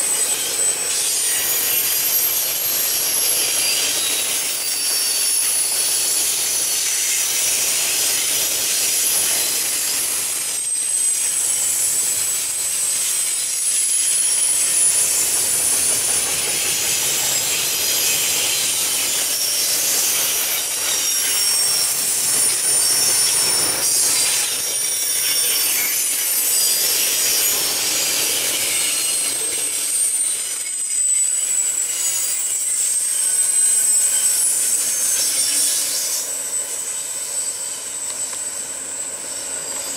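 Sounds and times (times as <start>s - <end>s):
high wheel squeals: 0.0s - 39.9s
steel wheels rolling on rail: 0.0s - 39.9s.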